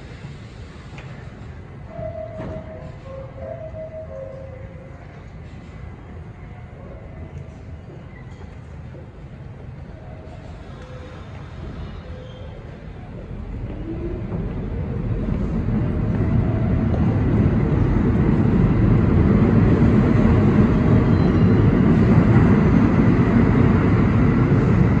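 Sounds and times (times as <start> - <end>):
subway train rumble: 0.0 - 25.0.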